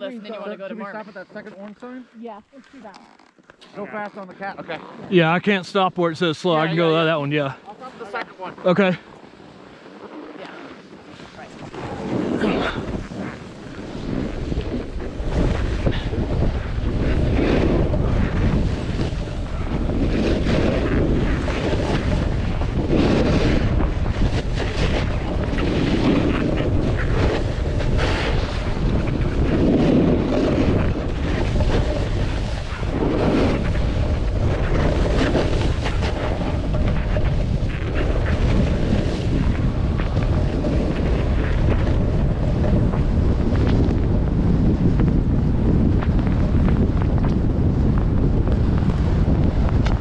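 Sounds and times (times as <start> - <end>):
skis scraping on snow: 0.0 - 50.0
wind buffeting microphone: 3.8 - 50.0.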